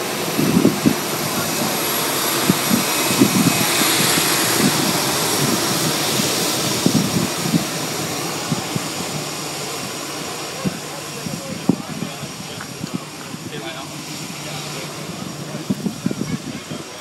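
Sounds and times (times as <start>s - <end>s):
jet engines rushing and whining: 0.0s - 17.0s
wind buffeting microphone: 0.0s - 17.0s.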